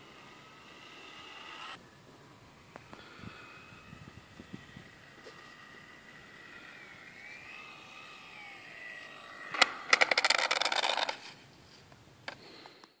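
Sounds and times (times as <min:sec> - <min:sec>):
model plane motor whining: 0:00.0 - 0:11.5
plane rattling and scraping on road: 0:00.0 - 0:12.4.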